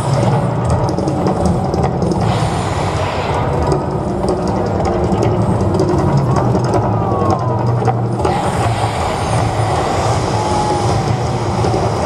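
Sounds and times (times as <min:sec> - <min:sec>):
hissing roar of gas flames: 0:00.0 - 0:12.0
loud low rumble: 0:00.0 - 0:12.0.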